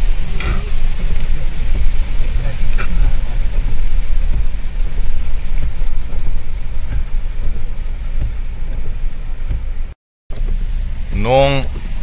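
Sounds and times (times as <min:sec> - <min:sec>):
car rumbling on road: 0:00.0 - 0:12.0
heavy rain on car roof: 0:00.0 - 0:12.0.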